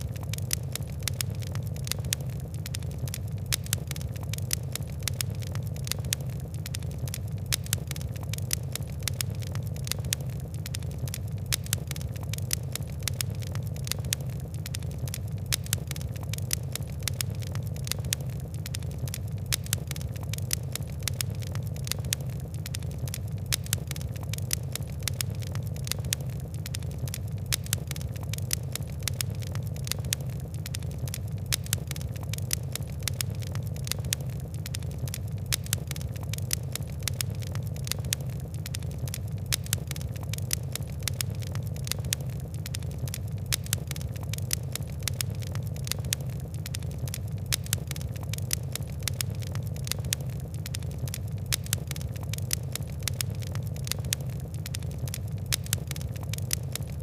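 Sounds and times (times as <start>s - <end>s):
fire crackling and popping: 0.0s - 57.0s
low rumble of burning: 0.0s - 57.0s.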